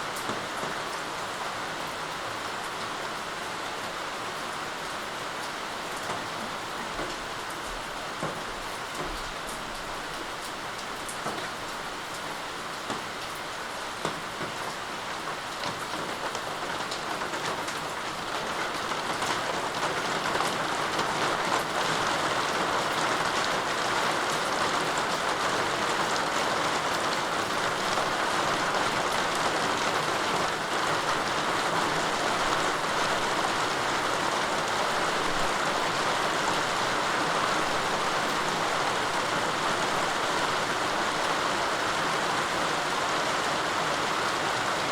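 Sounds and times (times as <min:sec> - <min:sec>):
rain on hard surfaces: 0:00.0 - 0:44.9.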